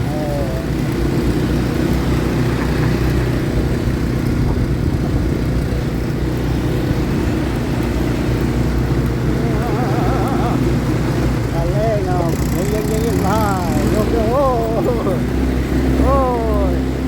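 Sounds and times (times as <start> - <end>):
atv engine drone: 0.0 - 17.0.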